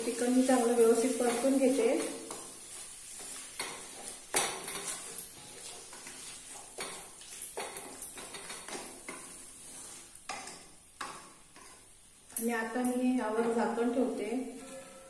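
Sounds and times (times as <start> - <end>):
spatula scraping a pot: 0.0 - 11.9, 14.6 - 15.0
light sizzle: 0.0 - 15.0.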